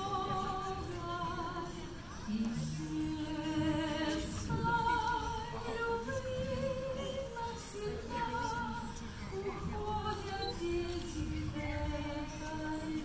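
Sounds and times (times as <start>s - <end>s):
high voice singing with vibrato: 0.0s - 13.0s.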